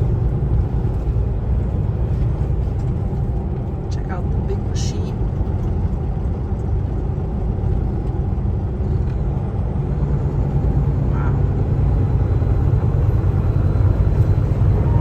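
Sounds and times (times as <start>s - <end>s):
truck engine and road noise rumble: 0.0s - 15.0s.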